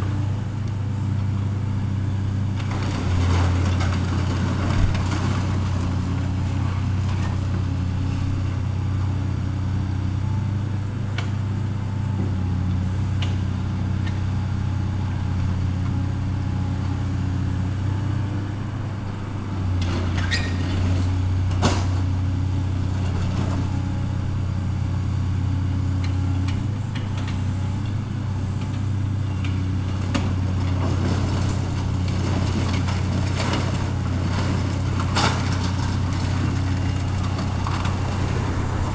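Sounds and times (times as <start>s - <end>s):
diesel engine deep hum: 0.0s - 38.9s.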